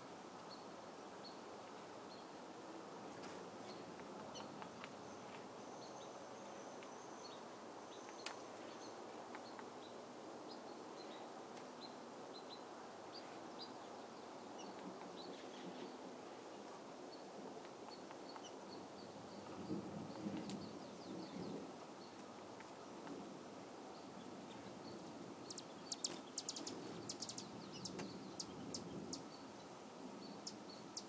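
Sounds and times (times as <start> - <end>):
background hiss: 0.0 - 31.0
small birds chirping: 3.2 - 16.0, 17.2 - 22.9, 23.9 - 31.0.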